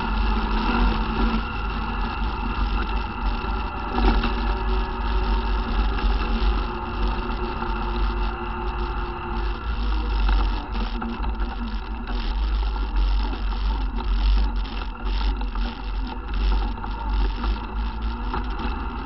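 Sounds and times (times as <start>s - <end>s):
atv engine running: 0.0s - 19.0s
low rumble of rough ride: 0.0s - 19.0s.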